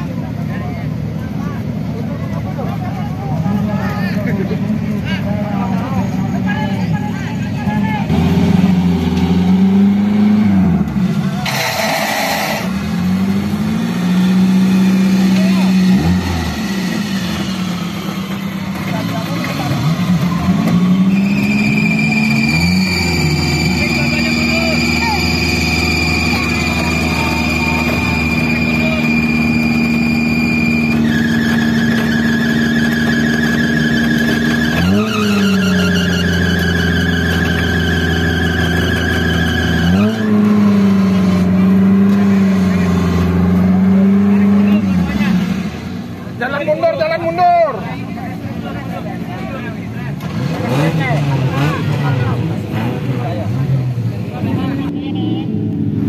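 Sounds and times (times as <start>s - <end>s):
buggy engine running: 0.0s - 56.0s.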